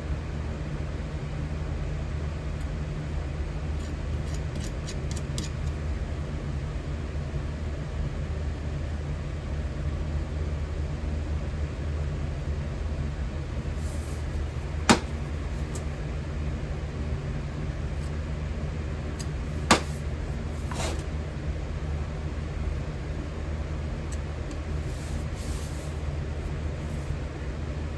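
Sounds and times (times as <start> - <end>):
furnace humming: 0.1 - 27.9.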